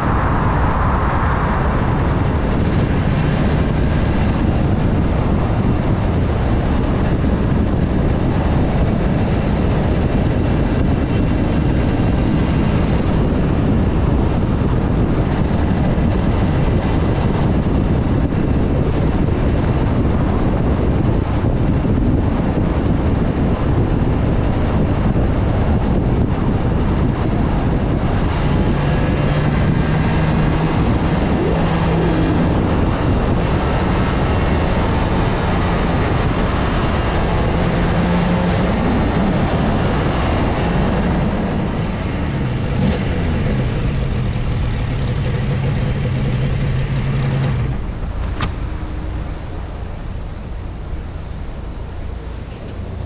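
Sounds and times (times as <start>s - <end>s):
motorcycle engine: 0.0s - 53.0s
wind rush: 0.0s - 53.0s.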